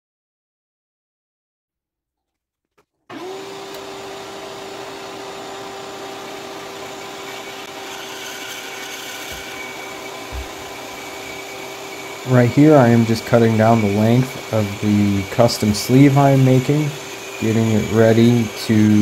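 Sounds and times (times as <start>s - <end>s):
electric machine humming: 3.1s - 19.0s.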